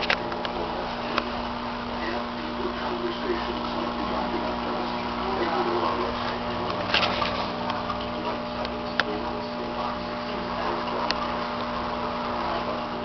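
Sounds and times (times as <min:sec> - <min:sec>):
aquarium equipment hum: 0:00.0 - 0:13.0.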